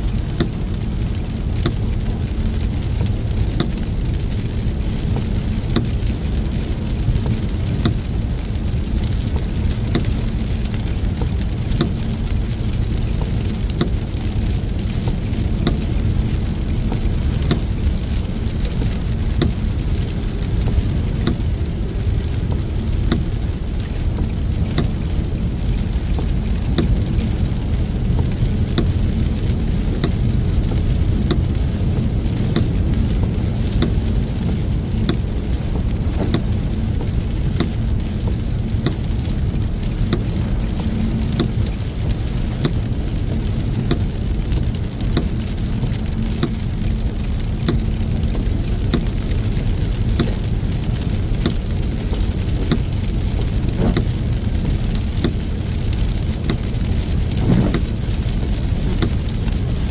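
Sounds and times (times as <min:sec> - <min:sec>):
heavy rain striking a car: 0:00.0 - 0:59.9
road and engine rumble: 0:00.0 - 0:59.9.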